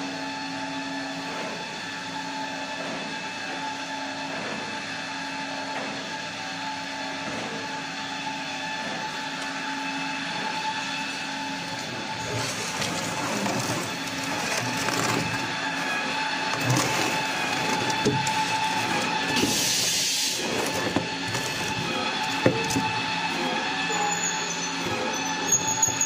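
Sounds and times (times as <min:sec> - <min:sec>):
converting machinery hum: 0:00.0 - 0:26.0.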